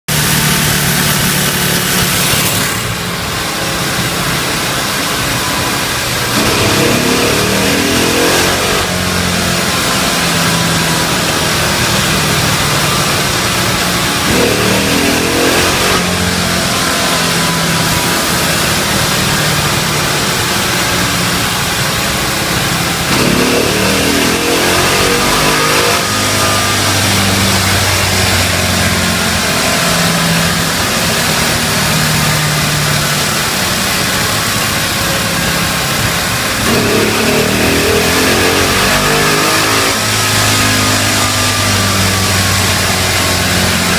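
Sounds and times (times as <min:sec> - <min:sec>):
kart engine revving: 0:00.0 - 0:43.9.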